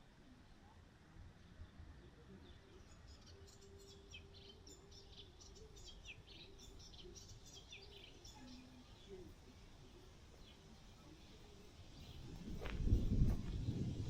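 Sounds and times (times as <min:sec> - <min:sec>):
small birds twittering: 0:01.7 - 0:14.0.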